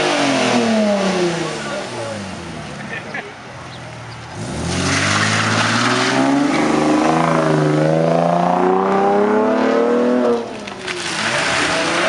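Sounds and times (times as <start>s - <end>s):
car engine revving: 0.0s - 3.0s, 4.0s - 12.0s.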